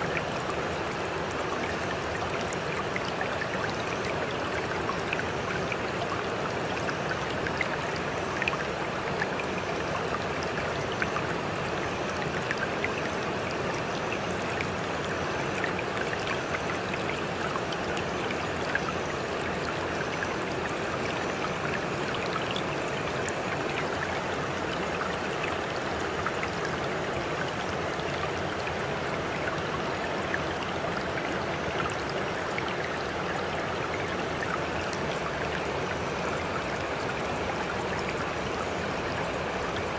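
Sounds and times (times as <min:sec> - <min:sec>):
faint drips and ticks: 0:00.0 - 0:39.9
running water rushing: 0:00.0 - 0:39.9.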